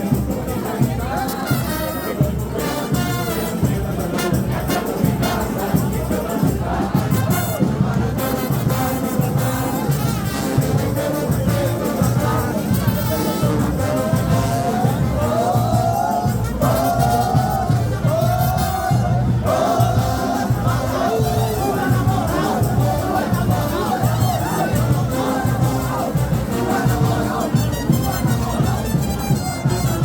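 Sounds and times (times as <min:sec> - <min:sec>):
brass band playing fast march: 0:00.0 - 0:30.0
crowd noise: 0:00.0 - 0:30.0
percussion beat: 0:00.0 - 0:30.0.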